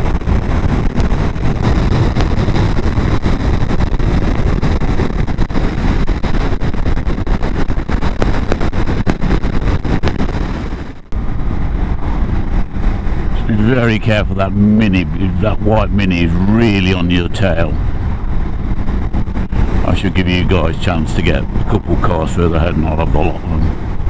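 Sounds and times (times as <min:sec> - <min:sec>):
wind buffeting on microphone: 0:00.0 - 0:24.0.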